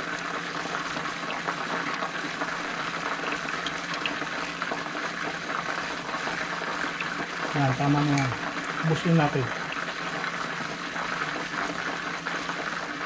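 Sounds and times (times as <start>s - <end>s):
oil bubbling and sizzling: 0.0s - 13.0s.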